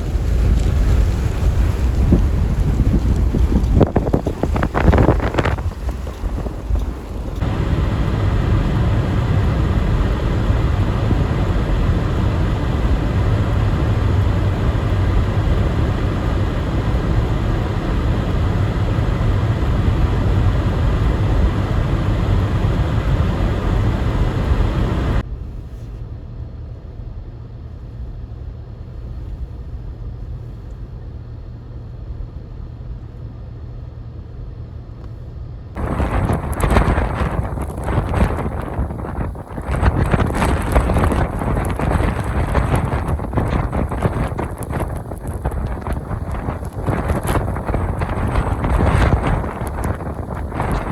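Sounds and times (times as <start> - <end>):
storm wind rushing over microphone: 0.0 - 31.3, 34.9 - 50.9.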